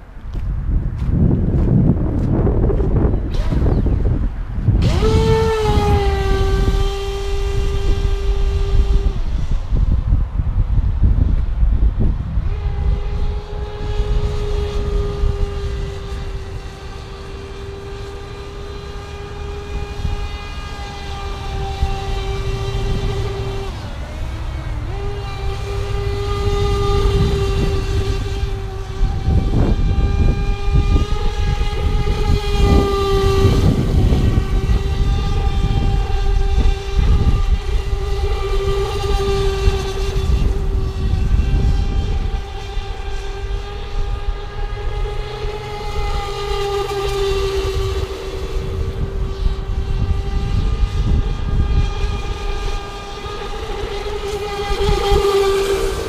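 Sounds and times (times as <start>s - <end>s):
electric motor whining: 2.2s - 56.0s.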